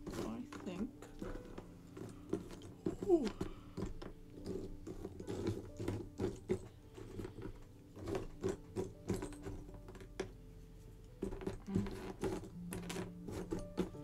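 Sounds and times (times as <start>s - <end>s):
puzzle pieces clicking and rustling: 0.0s - 10.3s, 11.2s - 14.0s.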